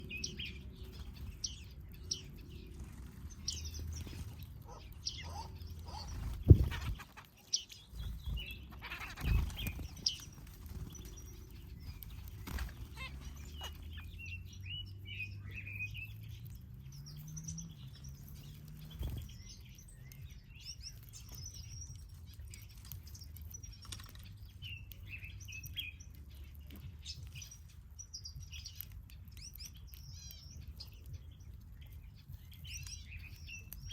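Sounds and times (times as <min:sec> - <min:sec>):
finches chirping: 0:00.0 - 0:33.9.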